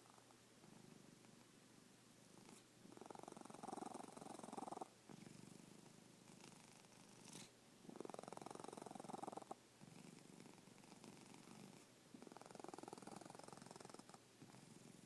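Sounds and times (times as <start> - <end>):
cat purring: 0.0 - 1.6, 2.2 - 15.0.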